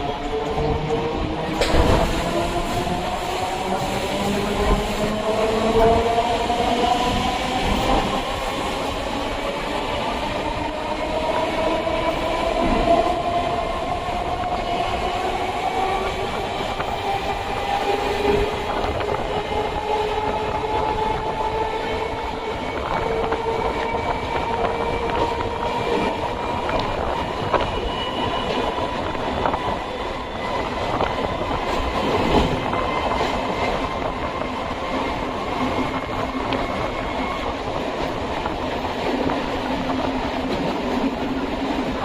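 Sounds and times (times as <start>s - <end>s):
train wheels rumbling and clattering: 0.0s - 42.0s.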